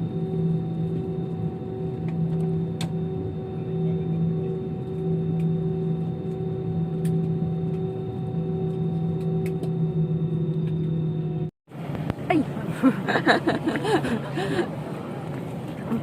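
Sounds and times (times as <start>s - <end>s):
airliner engines humming: 0.0s - 16.0s.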